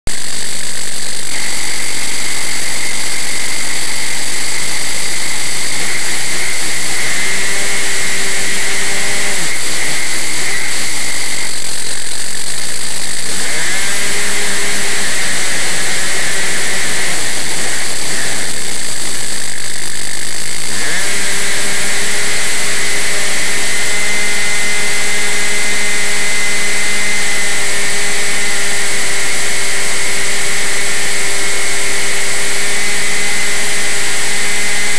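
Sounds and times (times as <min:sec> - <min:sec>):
model plane motor and propeller: 0:00.1 - 0:34.9.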